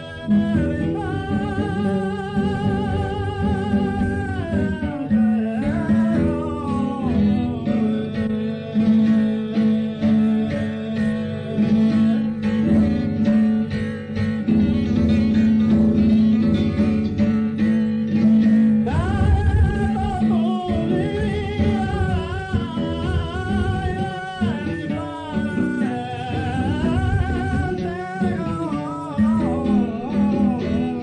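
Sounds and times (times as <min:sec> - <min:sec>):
acoustic guitar strumming: 0:00.0 - 0:31.0
person singing: 0:00.0 - 0:31.0.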